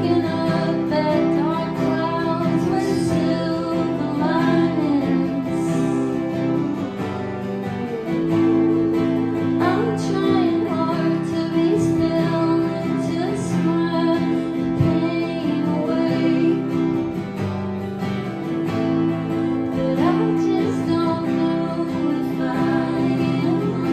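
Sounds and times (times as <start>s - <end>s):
acoustic guitar strumming: 0.0s - 23.9s
woman singing: 0.0s - 23.9s.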